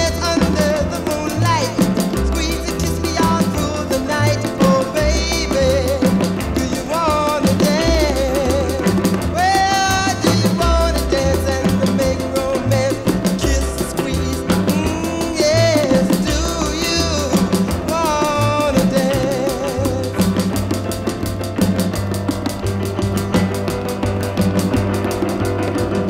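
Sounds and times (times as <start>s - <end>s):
song with bass and drums: 0.0s - 26.0s.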